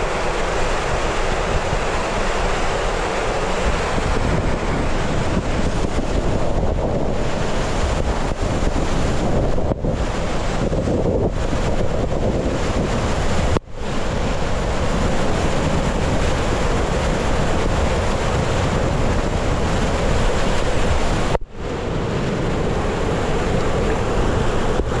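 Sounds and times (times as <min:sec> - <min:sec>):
water and air rushing: 0:00.0 - 0:25.0
wind buffeting microphone: 0:00.0 - 0:25.0.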